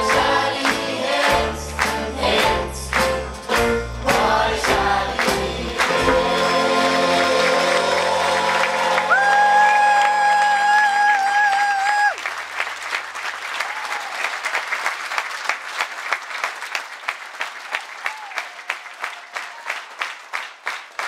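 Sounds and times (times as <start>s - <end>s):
audience applauding: 0.0s - 21.0s
rhythmic clapping in unison: 0.0s - 21.0s.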